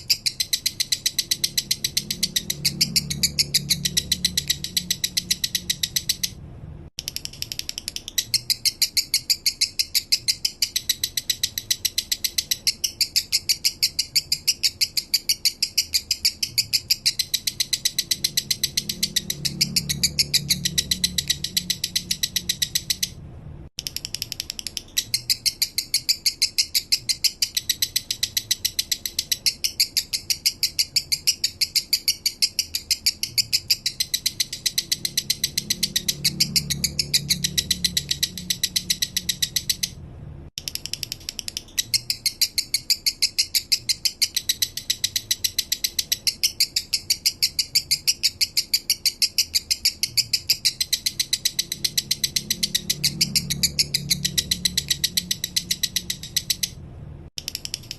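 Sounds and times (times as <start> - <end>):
bird chattering song: 0.0 - 6.4, 7.0 - 23.2, 23.8 - 40.0, 40.6 - 56.8, 57.4 - 57.9.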